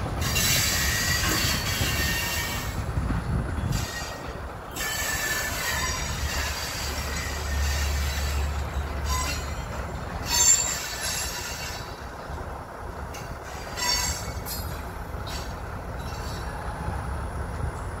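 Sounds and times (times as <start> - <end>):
low train rumble: 0.0 - 18.0
train wheels squealing on rails: 0.0 - 18.0.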